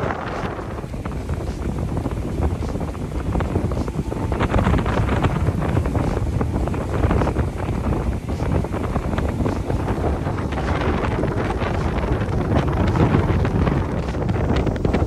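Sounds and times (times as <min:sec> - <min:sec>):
boat motor running: 0:00.0 - 0:15.0
rushing water: 0:00.0 - 0:15.0
wind buffeting microphone: 0:00.0 - 0:15.0.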